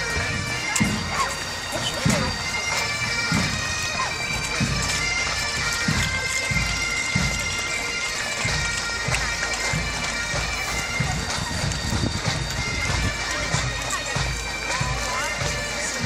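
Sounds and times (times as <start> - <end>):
bagpipes playing a march: 0.0 - 16.0.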